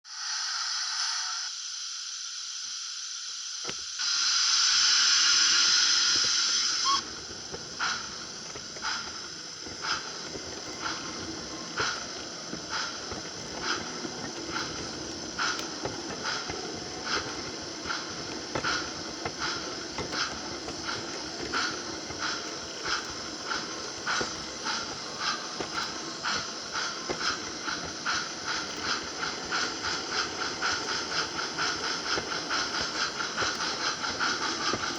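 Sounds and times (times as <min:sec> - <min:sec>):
steam hissing: 0:00.0 - 0:34.9
steam locomotive chuffing: 0:03.7 - 0:34.9
motor and wheels rumbling on track: 0:04.8 - 0:34.9.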